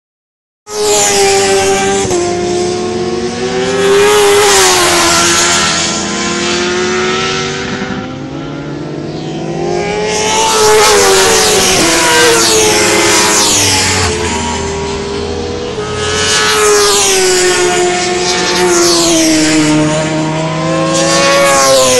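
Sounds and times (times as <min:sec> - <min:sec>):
racing motorcycle engines: 0:00.7 - 0:21.9.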